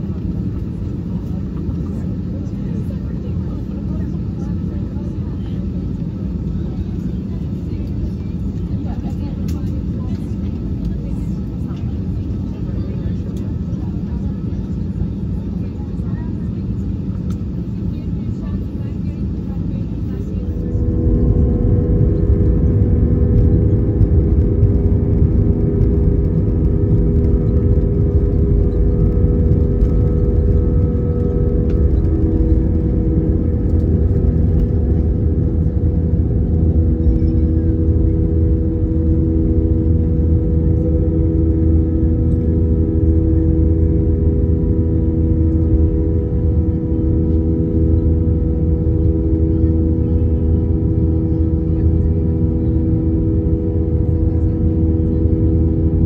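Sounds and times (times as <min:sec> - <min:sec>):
airliner engines roaring: 0:00.0 - 0:56.0
constant cabin hum: 0:00.0 - 0:56.0.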